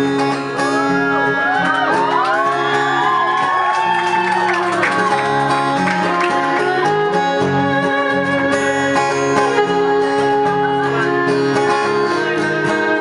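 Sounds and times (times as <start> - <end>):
folk-style guitar music: 0.0 - 13.0.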